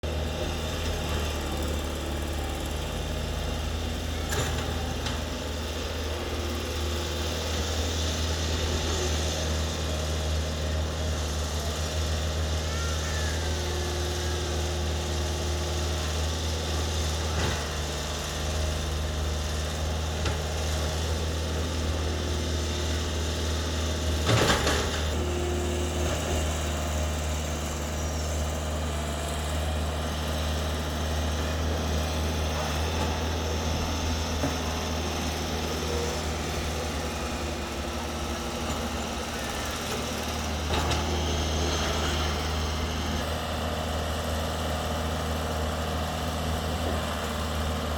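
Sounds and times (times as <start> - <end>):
excavator diesel engine droning: 0.0 - 47.9.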